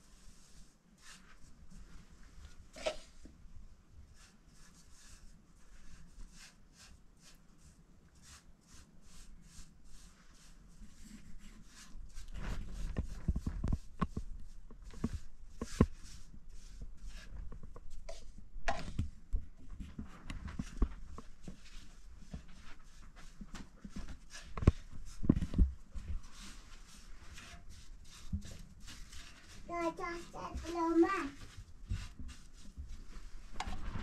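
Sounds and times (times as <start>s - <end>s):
paintbrush scratching on metal door: 4.2s - 18.4s, 19.9s - 33.8s.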